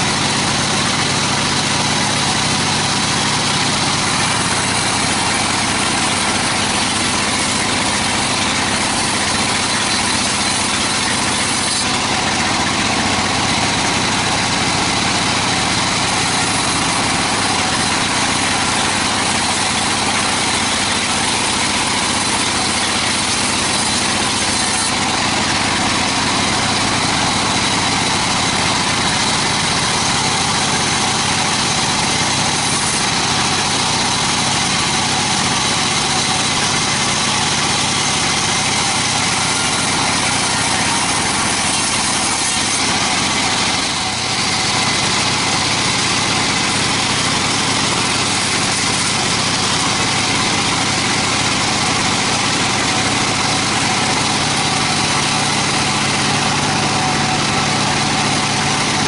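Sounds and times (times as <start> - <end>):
band saw ripping wood: 0.0 - 59.0.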